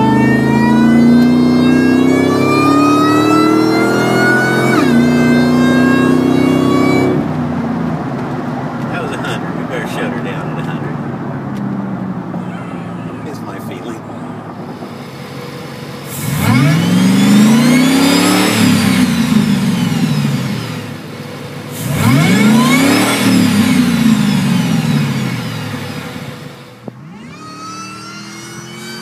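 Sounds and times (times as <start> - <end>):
supercharger whine: 0.0 - 29.0
truck engine revving: 0.0 - 29.0.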